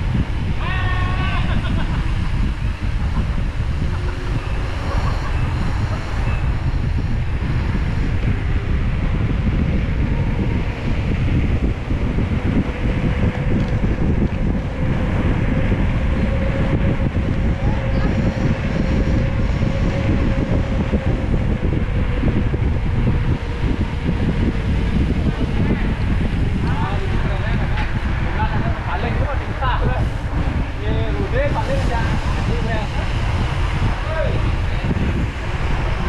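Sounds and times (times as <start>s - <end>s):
rolling road noise: 0.0s - 36.0s
wind buffeting microphone: 0.0s - 36.0s.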